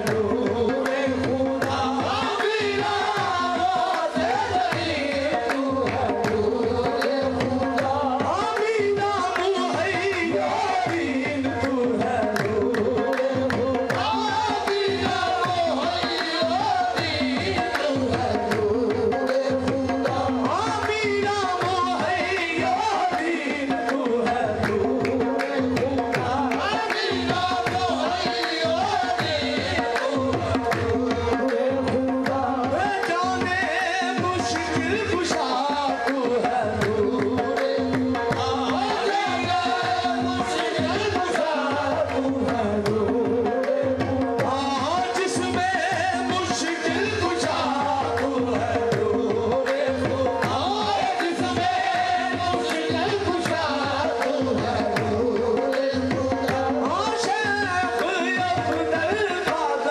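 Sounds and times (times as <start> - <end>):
hand drums beating fast: 0.0 - 59.9.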